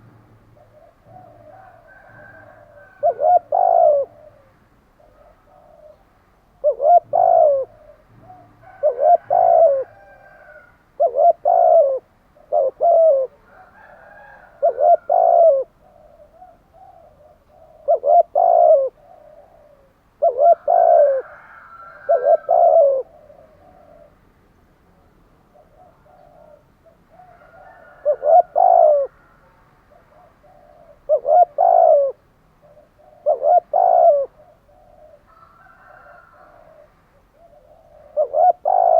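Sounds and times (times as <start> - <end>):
dove cooing loudly: 0.0 - 24.2, 25.5 - 38.9
faint doves cooing: 0.0 - 38.9.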